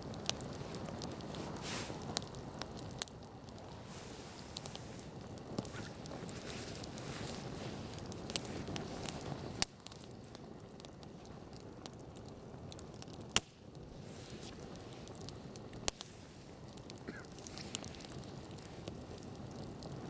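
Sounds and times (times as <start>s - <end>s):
burning wood popping: 0.0s - 20.0s
campfire crackling: 0.0s - 20.0s.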